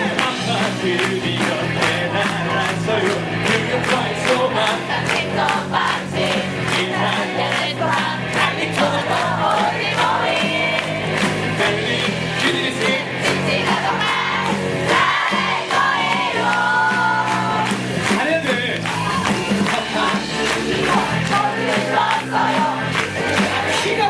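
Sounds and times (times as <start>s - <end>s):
audience shouting and cheering: 0.0s - 24.0s
live band playing upbeat song: 0.0s - 24.0s.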